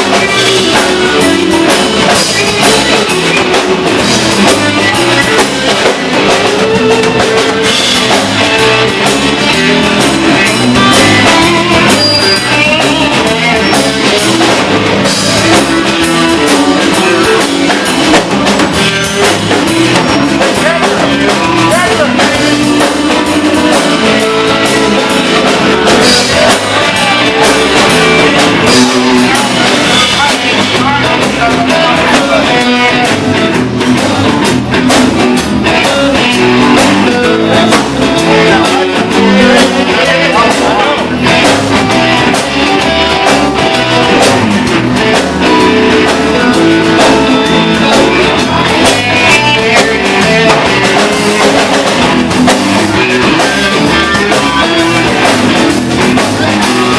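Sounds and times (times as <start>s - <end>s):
rock band music: 0.0s - 56.9s.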